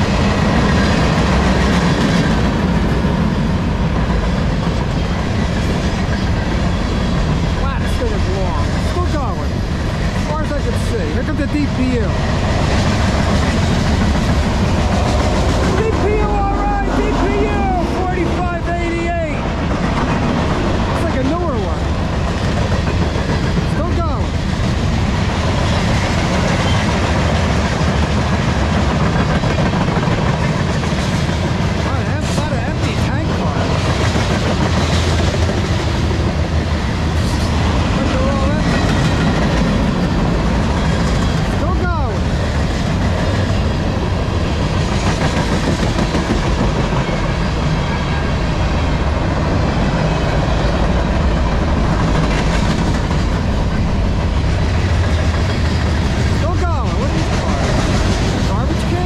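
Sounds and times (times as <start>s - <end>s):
freight cars rumbling on rails: 0.0s - 59.0s.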